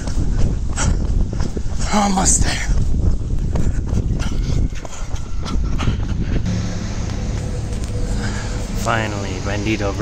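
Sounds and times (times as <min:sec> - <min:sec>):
running footsteps on concrete: 0:00.0 - 0:09.2
low rumble: 0:00.0 - 0:10.0.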